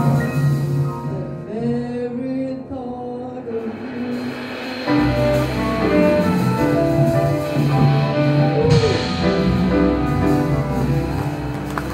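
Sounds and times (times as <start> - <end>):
double bass: 0.0 - 3.7, 4.4 - 11.9
drum kit: 0.0 - 11.9
piano: 0.0 - 11.9.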